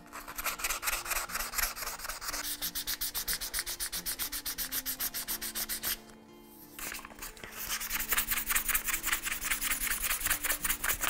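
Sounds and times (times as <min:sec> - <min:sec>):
wood rubbing on sandpaper: 0:00.0 - 0:06.1, 0:06.7 - 0:11.0.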